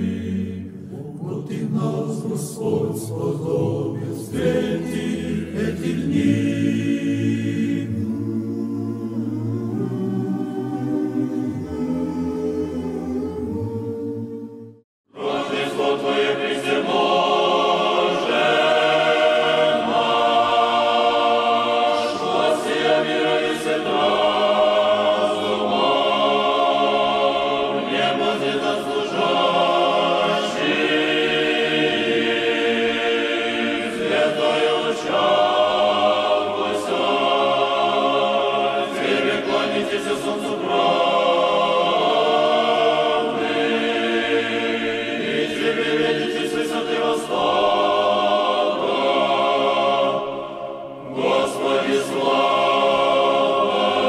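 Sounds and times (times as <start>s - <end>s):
choir singing chant a cappella: 0.0s - 54.0s.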